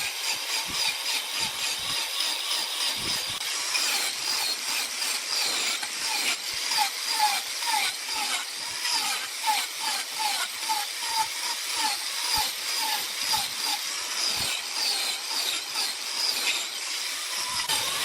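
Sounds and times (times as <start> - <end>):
tool scraping wood on lathe: 0.0 - 18.0.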